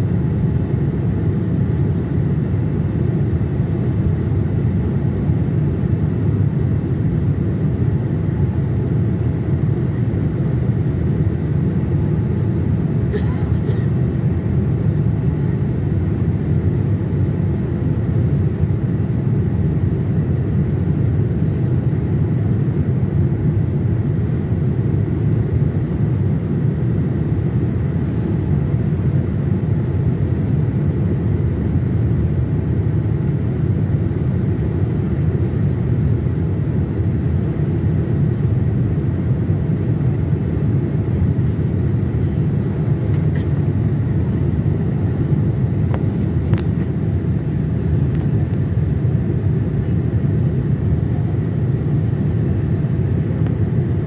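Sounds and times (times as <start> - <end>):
airflow noise in cabin: 0.0 - 54.0
jet engine rumble: 0.0 - 54.0.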